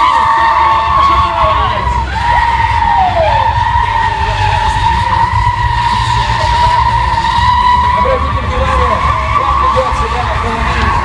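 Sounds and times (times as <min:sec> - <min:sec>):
car engine running: 0:00.0 - 0:11.0
tyres squealing: 0:00.0 - 0:11.0.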